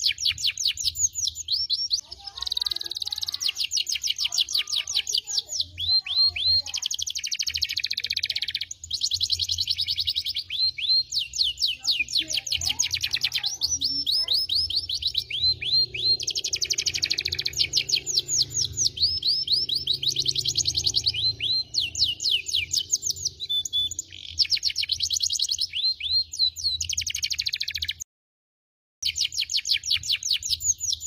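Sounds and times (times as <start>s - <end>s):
canary singing: 0.0s - 28.0s, 29.0s - 31.0s.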